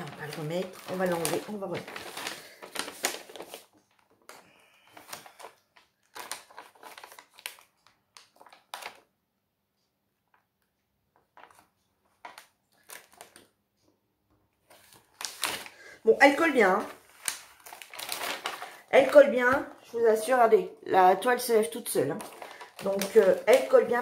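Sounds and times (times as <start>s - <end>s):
plastic film crinkling: 0.0s - 9.1s, 11.4s - 13.5s, 14.7s - 24.0s.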